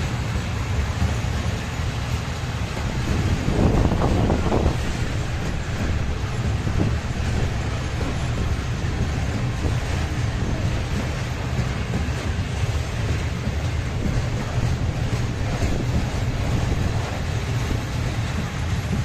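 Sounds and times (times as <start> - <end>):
train passing with rumble: 0.0 - 19.0.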